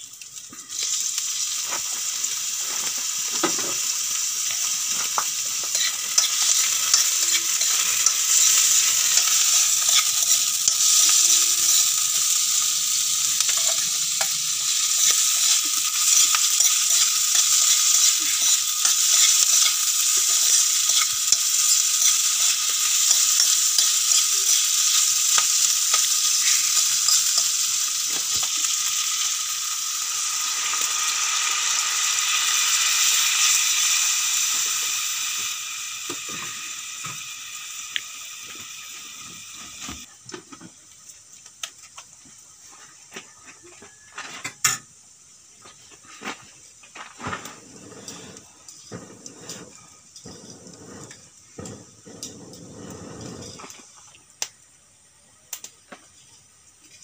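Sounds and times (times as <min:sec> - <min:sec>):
onion sizzling in hot oil: 0:00.0 - 0:42.7, 0:43.9 - 0:54.8.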